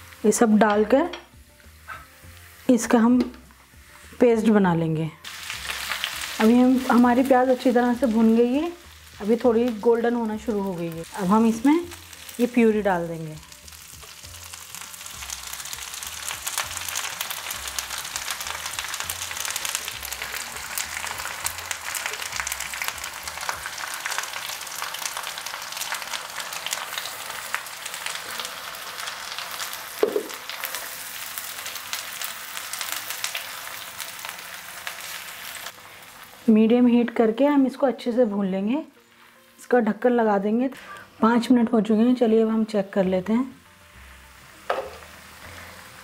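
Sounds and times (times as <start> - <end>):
onion paste sizzling in oil: 0.0 - 40.0, 42.2 - 46.0.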